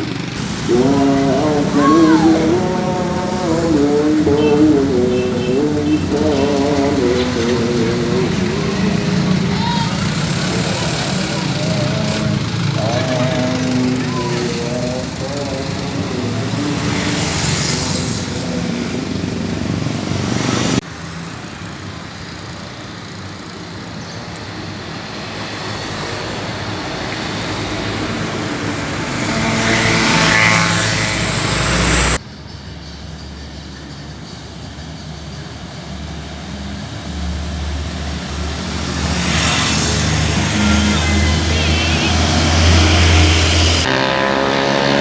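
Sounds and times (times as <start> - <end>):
road traffic passing: 0.0 - 45.0.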